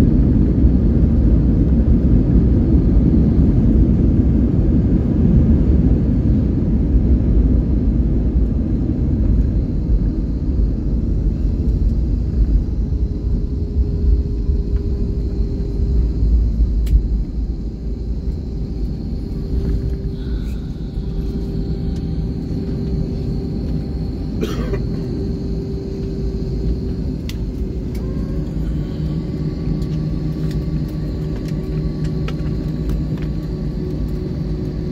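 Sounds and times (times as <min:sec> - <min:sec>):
aircraft cabin rumble: 0:00.0 - 0:34.9.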